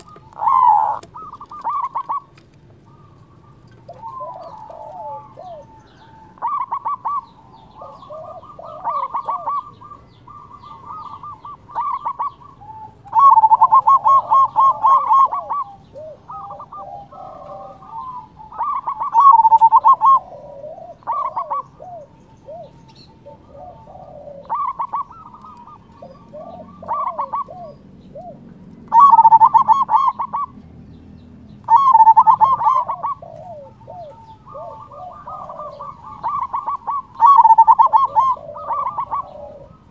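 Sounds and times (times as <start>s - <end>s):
dove cooing: 0.0s - 39.9s
soft bird calls: 0.0s - 39.9s.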